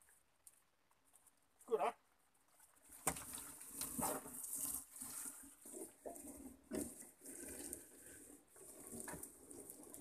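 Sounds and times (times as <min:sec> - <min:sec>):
water dripping and splashing: 0:00.0 - 0:10.0
wet net being hauled: 0:00.0 - 0:10.0.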